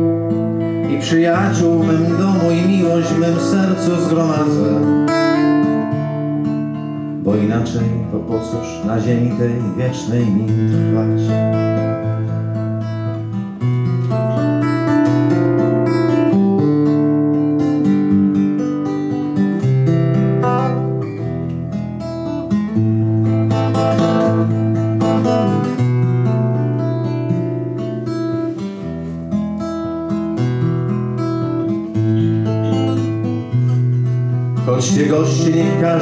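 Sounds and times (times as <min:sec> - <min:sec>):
acoustic guitar strumming chords: 0:00.0 - 0:36.0.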